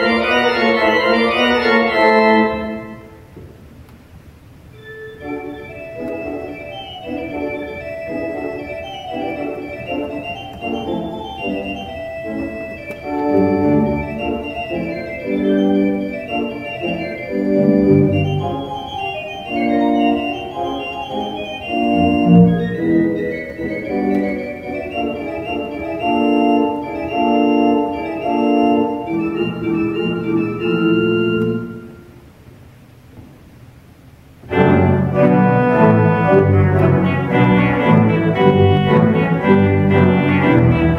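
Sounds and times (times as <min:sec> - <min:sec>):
deep organ pedal bass notes: 0:00.0 - 0:03.0, 0:04.8 - 0:32.1, 0:34.5 - 0:40.9
pipe organ playing quick notes: 0:00.0 - 0:03.2, 0:04.7 - 0:32.2, 0:34.5 - 0:40.9.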